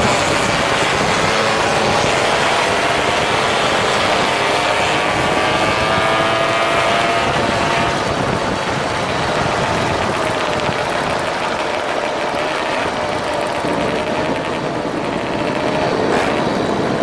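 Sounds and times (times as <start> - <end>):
moped engine running: 0.0 - 17.0
road and wind noise: 0.0 - 17.0.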